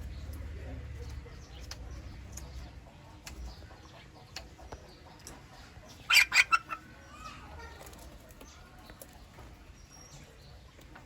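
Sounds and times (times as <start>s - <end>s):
chicks chirping: 1.0s - 10.9s.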